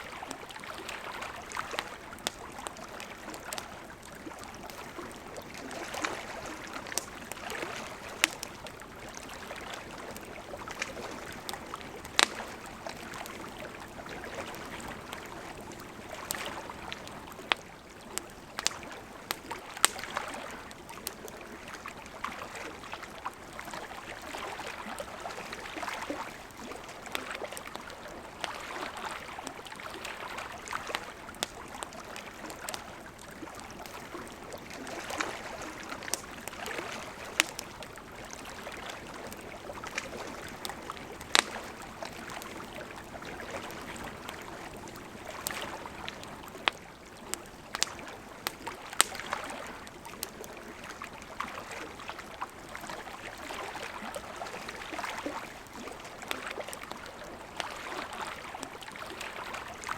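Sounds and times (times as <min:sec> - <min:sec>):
campfire crackling and popping: 0:00.0 - 0:57.8
lake waves lapping: 0:00.0 - 0:59.9.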